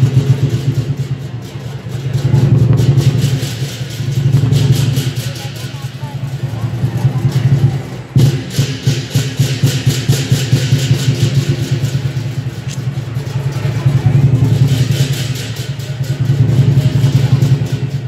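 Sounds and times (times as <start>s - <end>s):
big drum beating rapidly: 0.0s - 18.0s
cymbals clashing: 0.0s - 18.0s.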